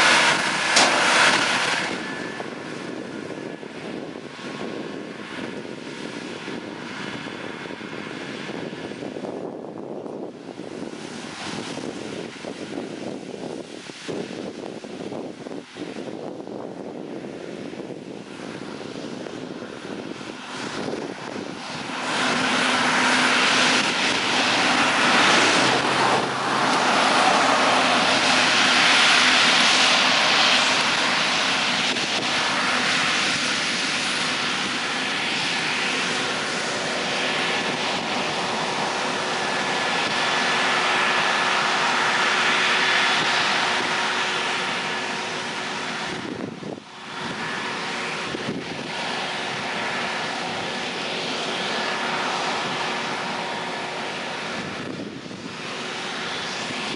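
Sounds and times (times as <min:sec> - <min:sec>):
combine harvester drone: 0:00.0 - 0:56.9
faint machinery whines: 0:00.0 - 0:56.9.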